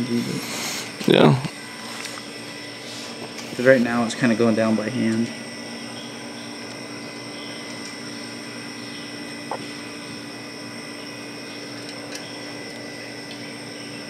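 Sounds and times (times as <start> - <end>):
mechanical hum with high whine: 0.0 - 14.0.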